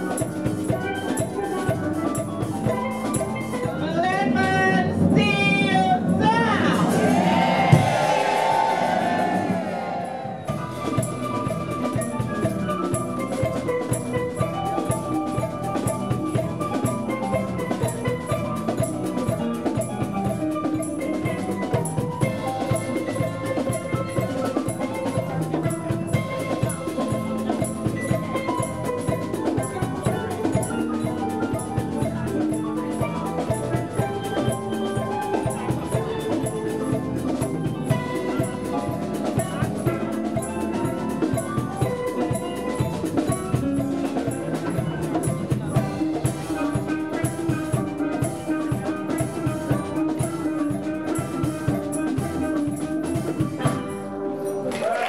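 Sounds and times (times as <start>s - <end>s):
drum kit beat: 0.0s - 54.2s
steel pan band playing: 0.0s - 55.0s.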